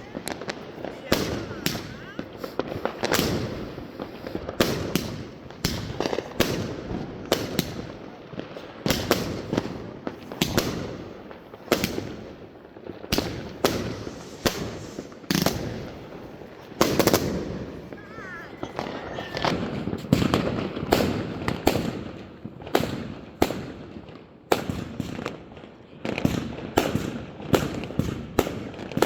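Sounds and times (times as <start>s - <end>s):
fireworks banging: 0.0s - 25.4s
fireworks crackling: 0.0s - 29.0s.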